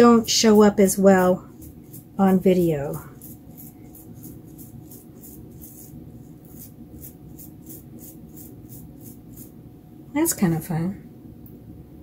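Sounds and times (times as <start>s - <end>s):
faint music with shaker beat: 0.0s - 9.6s.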